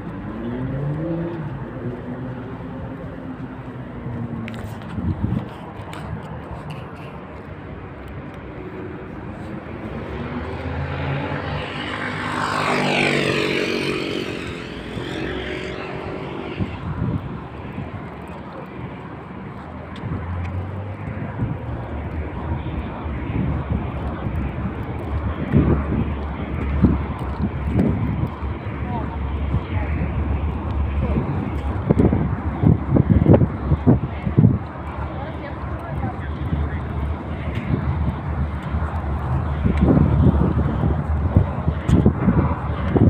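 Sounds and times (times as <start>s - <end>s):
steady low rumble: 0.0s - 43.0s
aircraft passing overhead: 8.4s - 43.0s.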